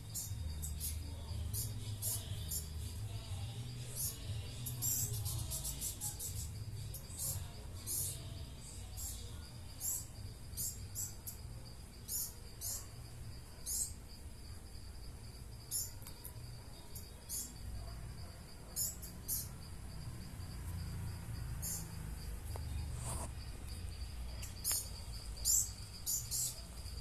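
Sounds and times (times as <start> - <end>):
small birds chirping: 0.0 - 14.8, 15.6 - 27.0.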